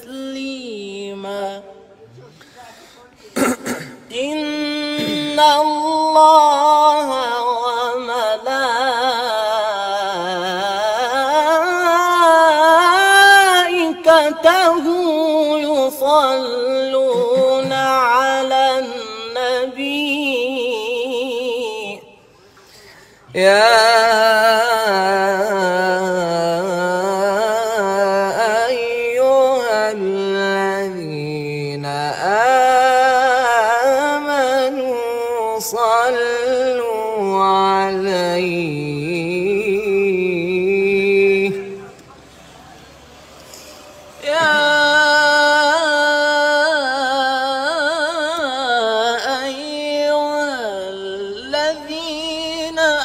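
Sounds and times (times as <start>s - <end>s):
man singing chant-like melody: 0.0s - 2.8s, 3.4s - 22.2s, 23.2s - 42.2s, 44.1s - 53.0s.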